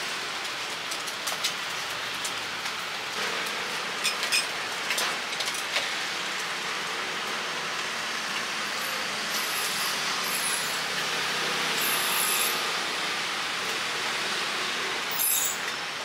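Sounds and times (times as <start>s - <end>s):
griddle sizzling: 0.0s - 16.0s.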